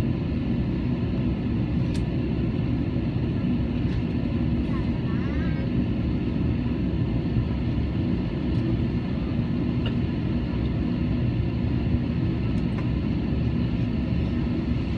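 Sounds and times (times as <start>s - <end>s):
aircraft cabin rumble: 0.0s - 14.9s.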